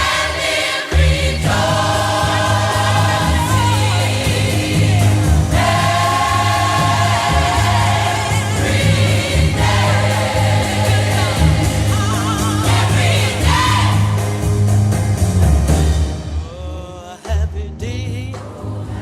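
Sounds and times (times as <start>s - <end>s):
lead voice singing: 0.0s - 14.4s, 16.4s - 19.0s
gospel choir singing: 0.0s - 14.7s, 18.3s - 19.0s
band with strong bass line: 0.0s - 19.0s.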